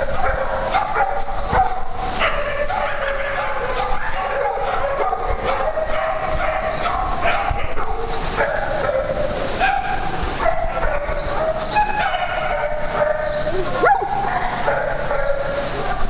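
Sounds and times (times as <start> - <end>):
dogs yipping and whining: 0.0 - 16.0.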